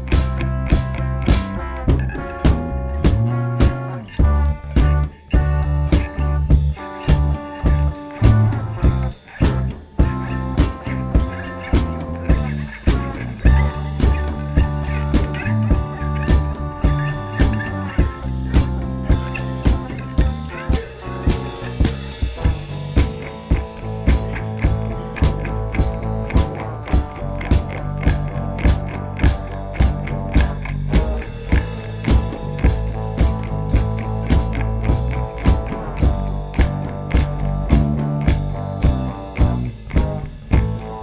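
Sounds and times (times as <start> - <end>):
drum kit beat: 0.0 - 41.0
guitar and bass notes: 0.0 - 41.0.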